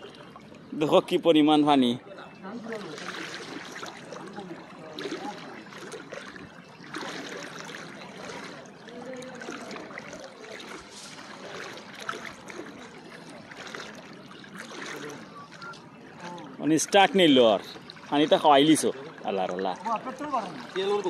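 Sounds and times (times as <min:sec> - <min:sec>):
floodwater sloshing and trickling: 0:00.0 - 0:21.0.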